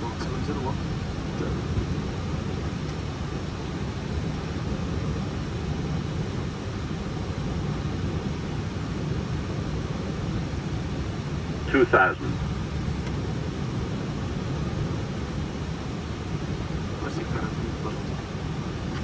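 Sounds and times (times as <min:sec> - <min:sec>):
aircraft engine noise: 0:00.0 - 0:19.0
airflow rush: 0:00.0 - 0:19.0.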